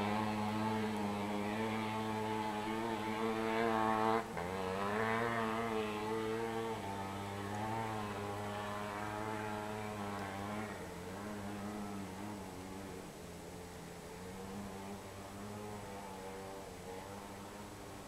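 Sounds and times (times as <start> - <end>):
dirt bike engine running hard: 0.0 - 18.0.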